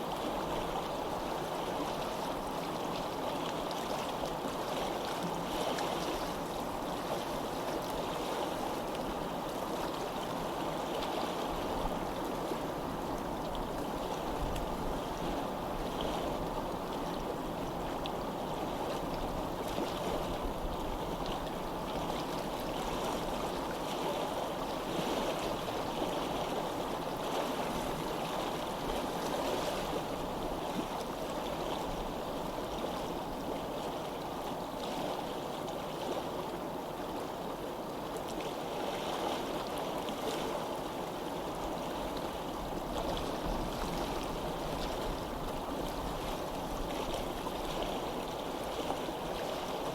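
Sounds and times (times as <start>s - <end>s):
stream of running water: 0.0s - 49.9s.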